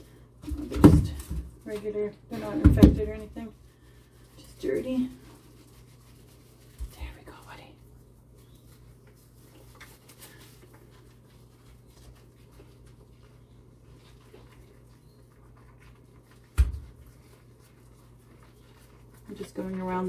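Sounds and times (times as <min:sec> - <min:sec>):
low steady hum: 0:00.0 - 0:20.0
wet rubbing and squishing: 0:02.4 - 0:20.0.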